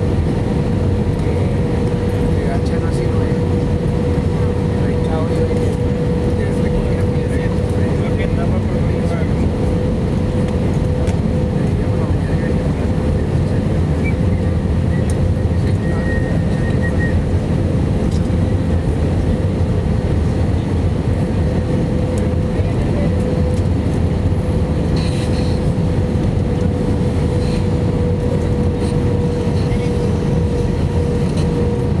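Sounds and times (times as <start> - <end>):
airliner cabin engine rumble: 0.0 - 32.0.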